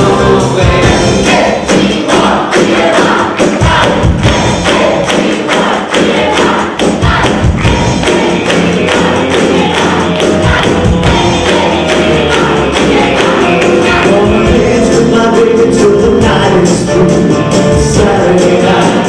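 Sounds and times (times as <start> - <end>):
live band playing upbeat song: 0.0 - 19.0.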